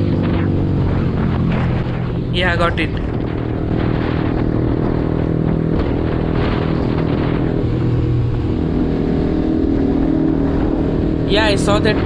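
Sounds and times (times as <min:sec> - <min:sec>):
motorcycle engines cruising: 0:00.0 - 0:12.0
wind rushing over microphone: 0:00.0 - 0:12.0.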